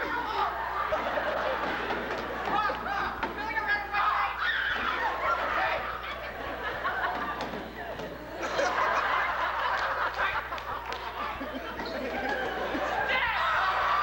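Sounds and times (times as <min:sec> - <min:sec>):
audience laughing and chattering: 0:00.0 - 0:03.2, 0:04.8 - 0:14.0.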